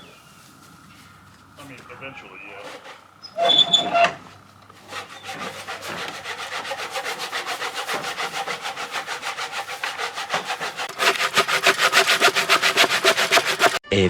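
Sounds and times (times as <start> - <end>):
hand saw cutting wood: 2.4 - 13.8.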